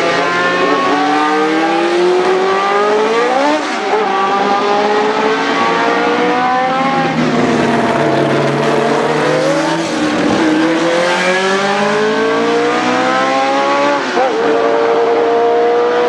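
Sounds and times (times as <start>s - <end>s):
racing car engine at full revs: 0.0s - 16.0s.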